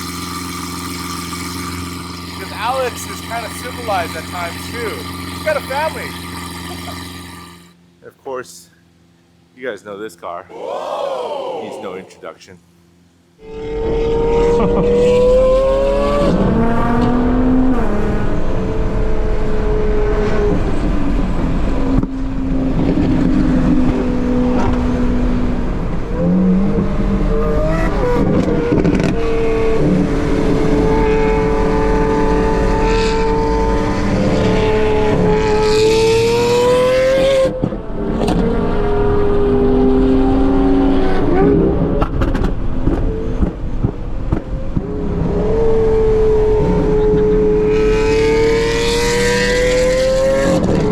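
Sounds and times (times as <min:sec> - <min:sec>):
car engine accelerating: 0:00.0 - 0:07.9, 0:12.9 - 0:50.9.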